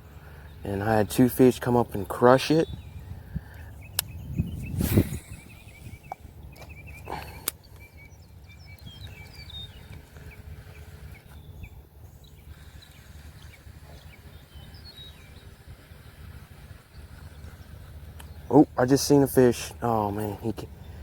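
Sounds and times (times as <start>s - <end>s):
birds chirping: 0.0s - 21.0s
steady low rumble: 0.0s - 21.0s.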